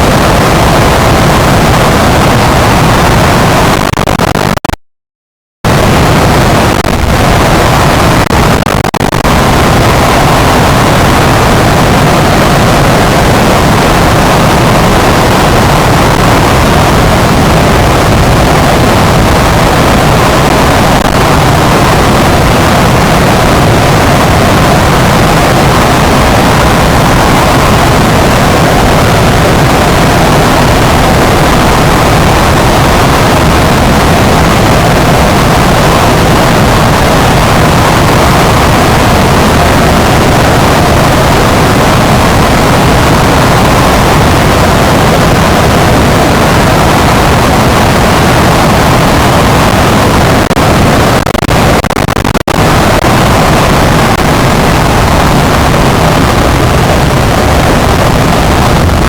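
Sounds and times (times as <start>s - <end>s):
harsh static noise: 0.0s - 4.8s, 5.6s - 59.0s.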